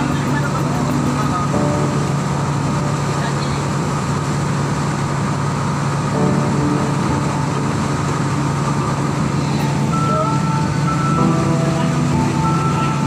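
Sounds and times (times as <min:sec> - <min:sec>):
boat engine humming: 0:00.0 - 0:13.0
churning water: 0:00.0 - 0:13.0
wind: 0:00.0 - 0:13.0.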